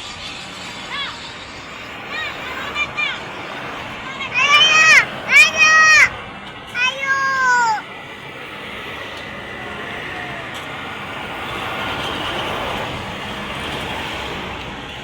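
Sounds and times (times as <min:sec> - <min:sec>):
traffic driving past: 0:00.0 - 0:15.0.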